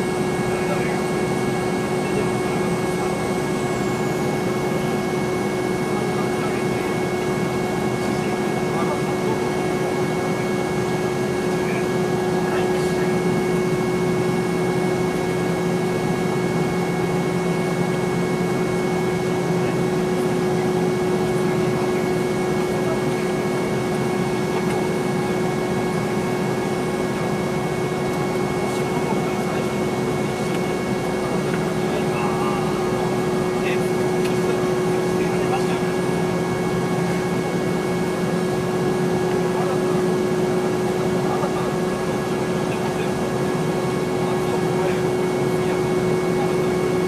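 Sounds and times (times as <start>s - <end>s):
jet engines whining: 0.0s - 47.0s.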